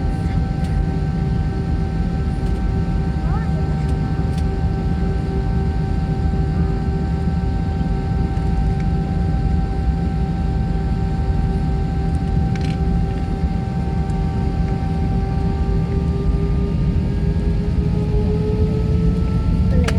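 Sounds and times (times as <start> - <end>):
constant engine whine: 0.0 - 19.9
jet engines rumbling: 0.0 - 19.9.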